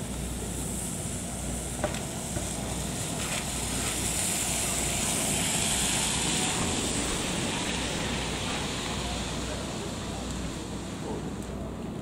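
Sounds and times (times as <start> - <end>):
car tyres swishing on wet road: 0.0 - 12.0
light rain on wet ground: 0.0 - 12.0.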